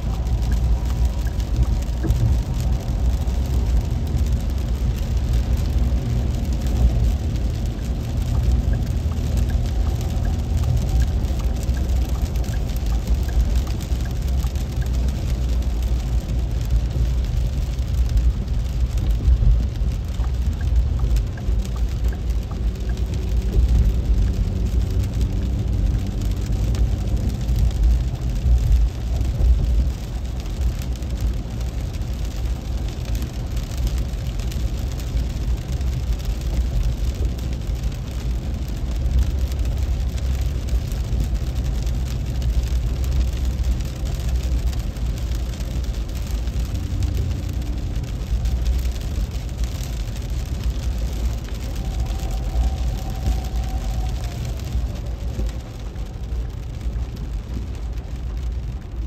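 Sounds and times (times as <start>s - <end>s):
heavy rain on car: 0.0s - 59.0s
tyres and engine rumble: 0.0s - 59.0s.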